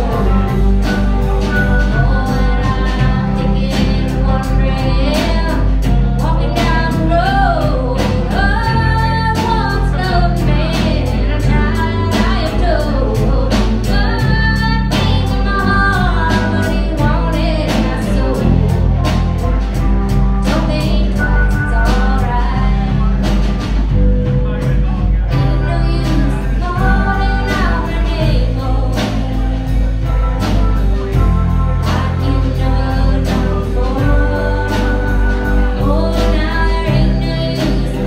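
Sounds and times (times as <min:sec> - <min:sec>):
live rock band playing: 0:00.0 - 0:38.0
person singing: 0:00.0 - 0:38.0.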